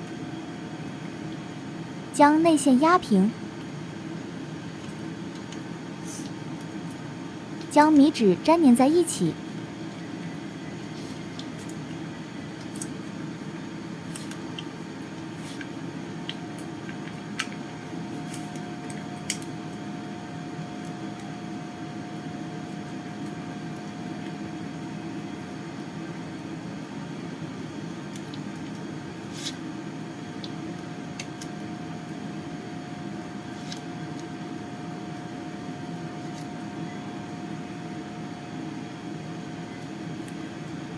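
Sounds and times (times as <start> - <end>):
low fan hum: 0.0 - 40.9.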